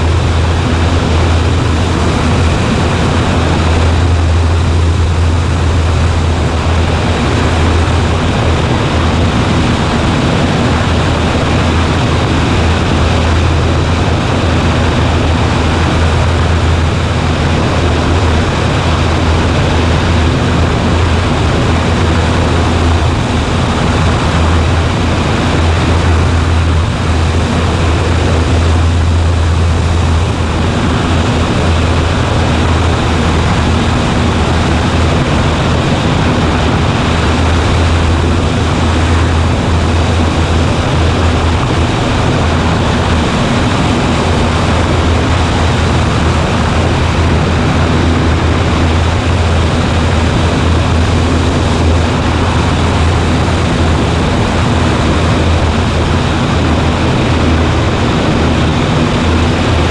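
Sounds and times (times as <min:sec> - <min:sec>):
propeller plane engine drone: 0:00.0 - 0:59.9
rushing air noise: 0:00.0 - 0:59.9.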